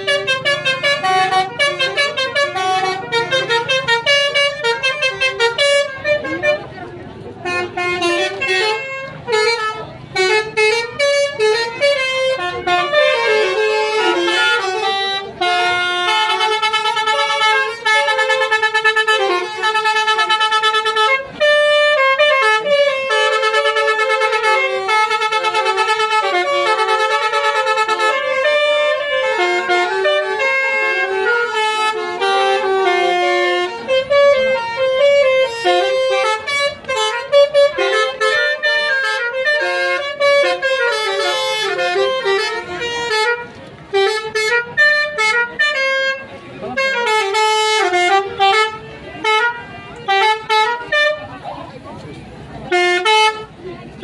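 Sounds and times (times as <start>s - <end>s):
bus horn playing a melody: 0.0s - 54.0s.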